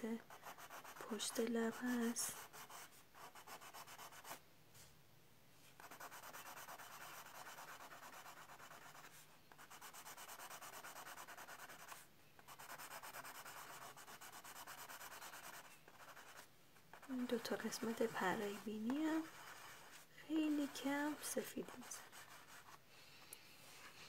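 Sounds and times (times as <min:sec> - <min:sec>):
pencil scratching on cardboard: 0:00.2 - 0:04.4, 0:05.8 - 0:22.8.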